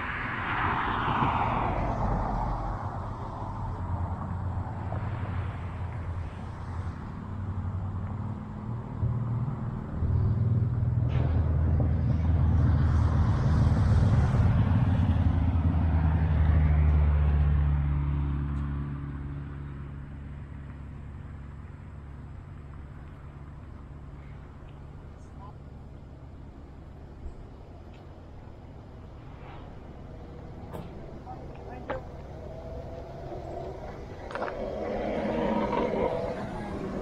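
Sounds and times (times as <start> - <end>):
engine rumbling: 0.0 - 37.0.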